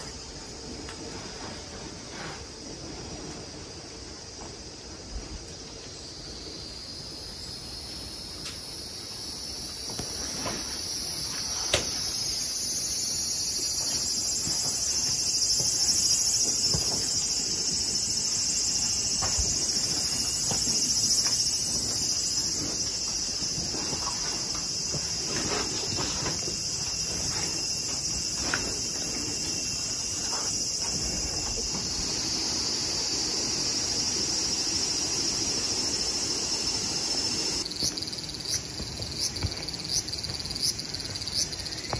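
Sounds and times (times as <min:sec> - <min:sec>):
insects shrilling: 0:06.9 - 0:41.9.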